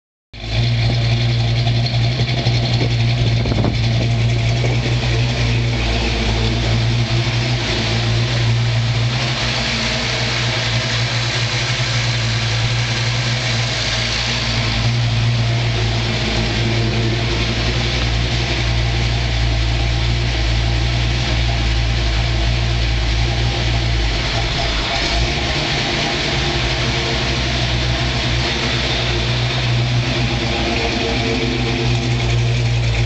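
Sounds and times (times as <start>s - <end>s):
car engine idling: 0.4s - 33.0s.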